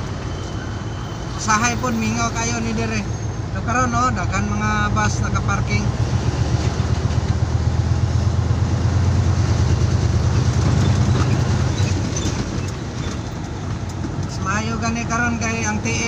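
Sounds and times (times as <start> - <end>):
road noise: 0.0 - 16.0
truck diesel engine droning: 0.0 - 16.0.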